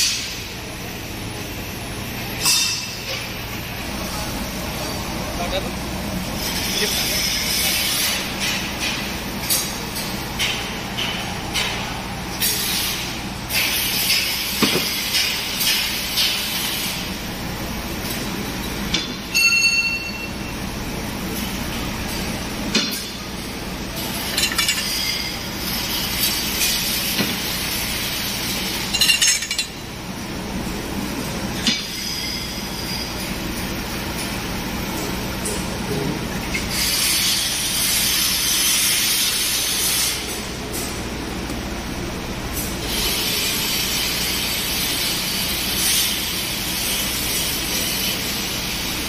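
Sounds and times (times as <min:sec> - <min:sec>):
roller conveyor machine noise: 0:00.0 - 0:49.0.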